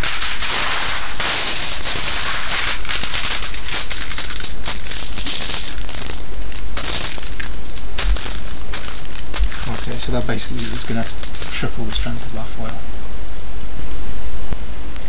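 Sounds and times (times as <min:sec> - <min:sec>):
aluminium foil crinkling: 0:00.0 - 0:13.5.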